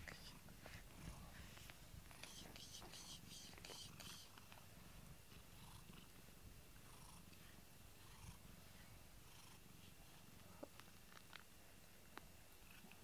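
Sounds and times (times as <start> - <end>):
cat purring: 0.0 - 11.4, 12.6 - 13.0.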